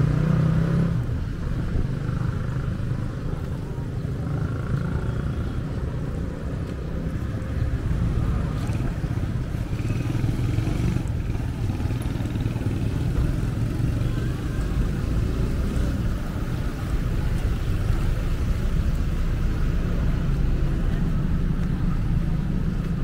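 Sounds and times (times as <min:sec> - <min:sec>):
motorcycle and car engines passing: 0:00.0 - 0:23.0.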